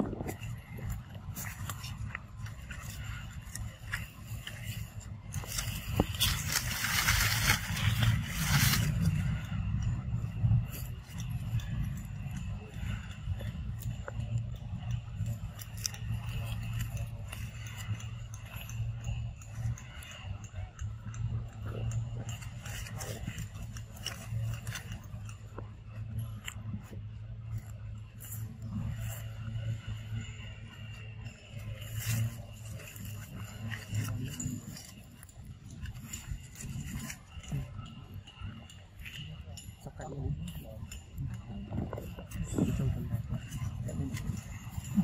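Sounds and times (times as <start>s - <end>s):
leaves and twigs rustling: 0.0s - 45.0s
steady low hum: 0.0s - 45.0s
steady low rumble: 0.0s - 45.0s.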